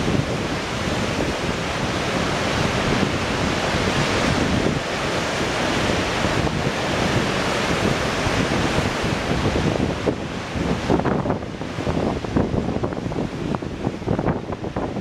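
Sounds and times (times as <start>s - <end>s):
waves breaking: 0.0s - 15.0s
wind buffeting microphone: 0.0s - 15.0s.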